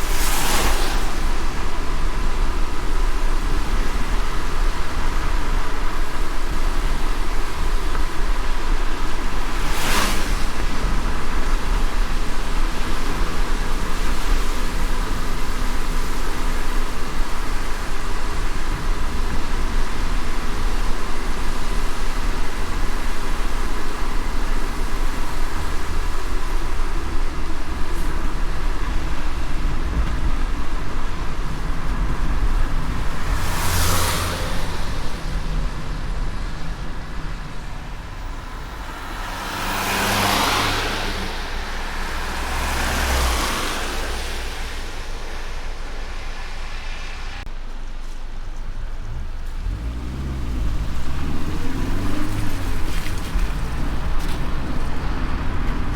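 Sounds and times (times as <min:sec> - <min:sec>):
passing vehicle whoosh: 0:00.0 - 0:17.7, 0:24.2 - 0:47.6, 0:49.0 - 0:55.9
low road rumble: 0:00.0 - 0:55.9
rain and tyres on wet road: 0:00.0 - 0:55.9.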